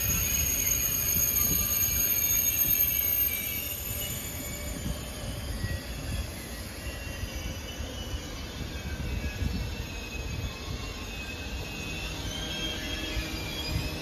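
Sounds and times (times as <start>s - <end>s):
faint high-pitched squeal: 0.0s - 14.0s
train wheel rumble: 0.0s - 14.0s.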